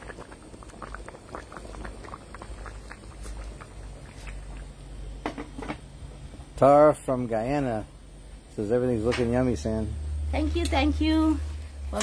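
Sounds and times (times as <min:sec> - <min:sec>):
pot of rice bubbling: 0:00.0 - 0:12.0.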